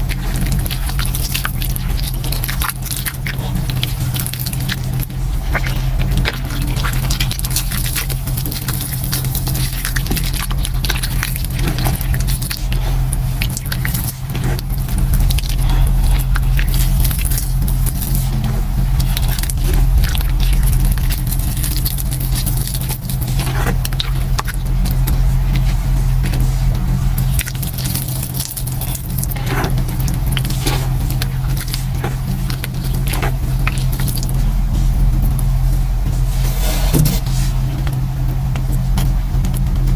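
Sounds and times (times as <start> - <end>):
hands squishing wet paste: 0.0 - 35.6
low hum: 0.0 - 39.9.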